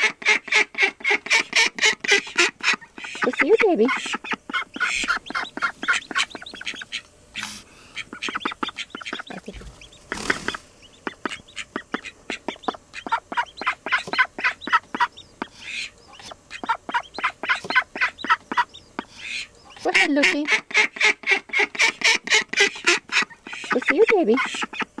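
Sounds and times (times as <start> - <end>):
ducks giving short calls: 0.0 - 25.0.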